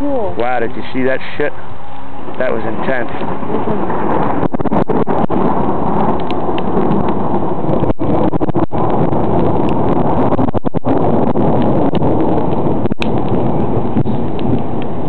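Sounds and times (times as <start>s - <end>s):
rain: 0.0s - 15.0s
rumble of thunder: 0.2s - 15.0s.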